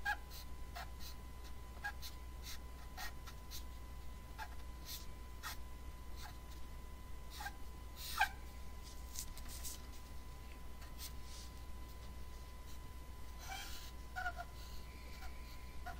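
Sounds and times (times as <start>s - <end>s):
faint electrical hum: 0.0s - 15.9s.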